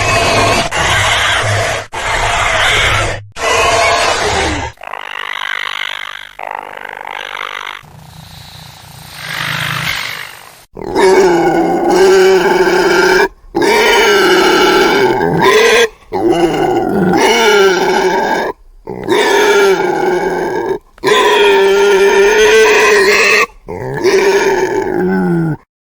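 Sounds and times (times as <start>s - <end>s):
deep pitched dinosaur calls: 0.0s - 7.9s, 9.2s - 25.6s.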